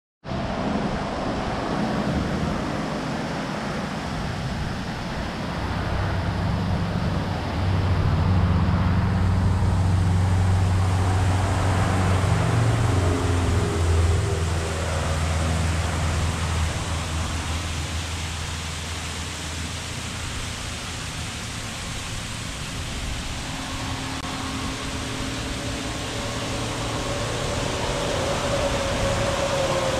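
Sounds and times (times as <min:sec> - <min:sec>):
waterfall roar: 0:00.3 - 0:29.9.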